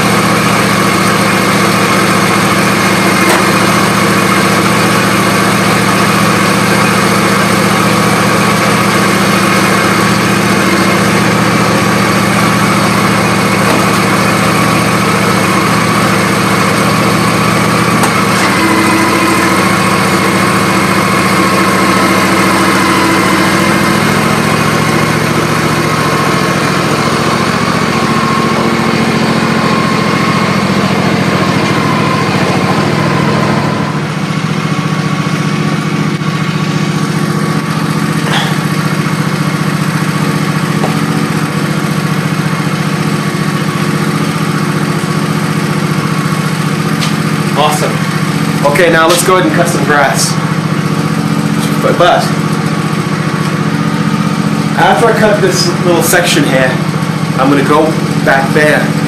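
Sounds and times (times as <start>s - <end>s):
lawn tractor engine idling: 0.0s - 59.0s.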